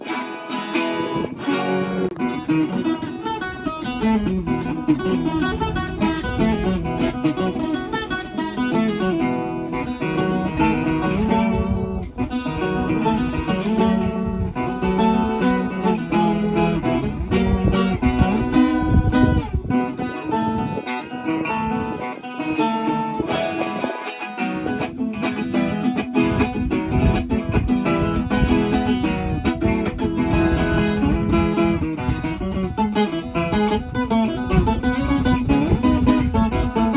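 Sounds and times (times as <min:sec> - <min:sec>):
folk guitar plucked melody: 0:00.0 - 0:36.9.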